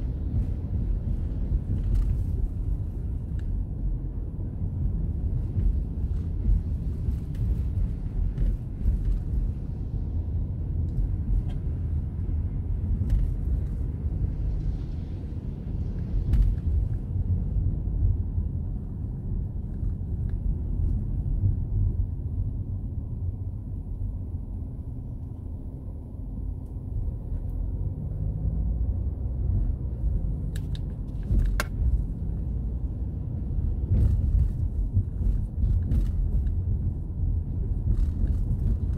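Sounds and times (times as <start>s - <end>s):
car driving on wet pavement: 0.0s - 24.1s, 24.8s - 38.9s.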